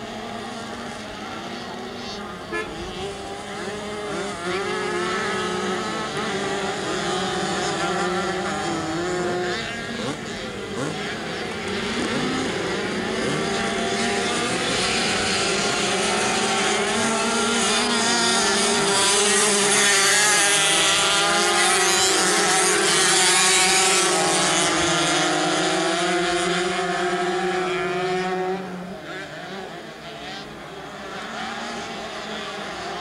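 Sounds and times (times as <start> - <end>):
racing motorcycle engines revving: 0.0 - 33.0.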